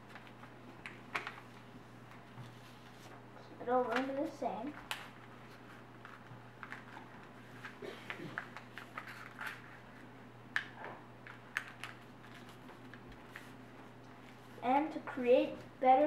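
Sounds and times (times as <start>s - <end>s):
paper crinkling and rustling: 0.0s - 10.1s, 11.2s - 14.6s.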